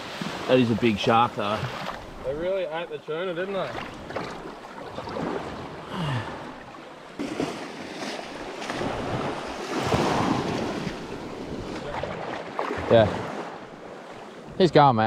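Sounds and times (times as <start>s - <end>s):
waves washing onto beach: 0.0s - 15.0s.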